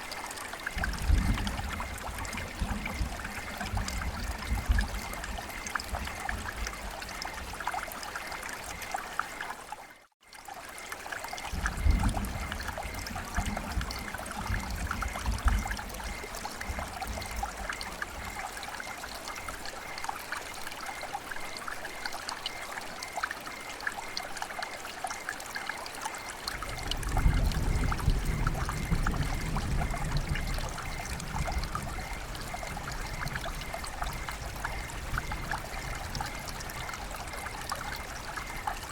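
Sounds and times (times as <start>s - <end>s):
rain falling: 0.0s - 9.8s, 10.5s - 38.9s
trickling water: 0.0s - 38.9s.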